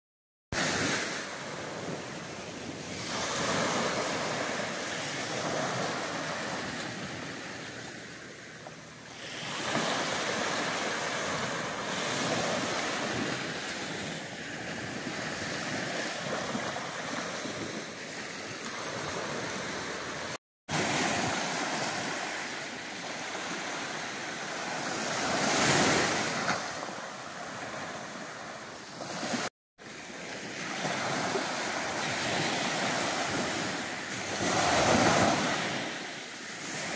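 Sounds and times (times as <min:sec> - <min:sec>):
waves washing onto sandy beach: 0:00.6 - 0:36.9.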